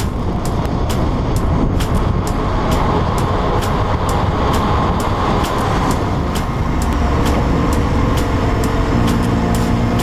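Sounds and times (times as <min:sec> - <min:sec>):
motorcycle engine at speed: 0:00.0 - 0:10.0
road noise: 0:00.0 - 0:10.0
wind noise: 0:00.0 - 0:10.0.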